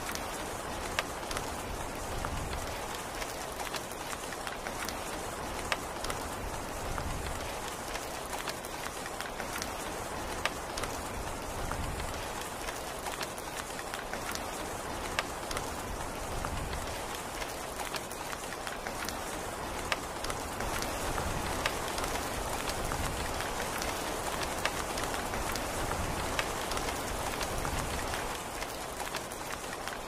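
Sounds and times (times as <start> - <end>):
rain hissing: 0.0 - 30.0
raindrops ticking: 0.0 - 30.0.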